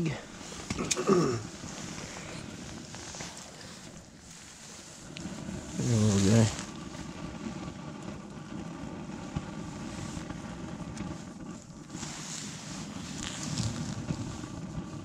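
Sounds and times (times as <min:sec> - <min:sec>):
faint rustling: 0:00.0 - 0:07.8, 0:09.2 - 0:15.0
steady rushing noise: 0:00.0 - 0:15.0.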